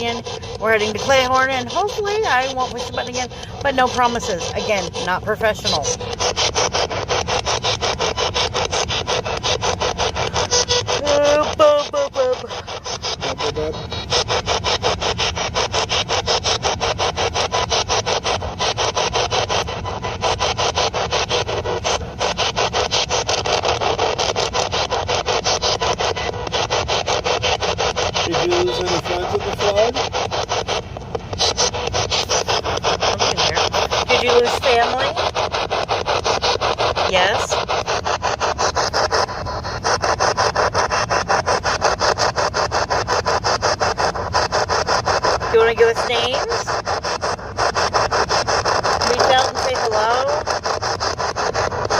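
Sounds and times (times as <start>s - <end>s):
choppy radio static: 0.0s - 51.9s.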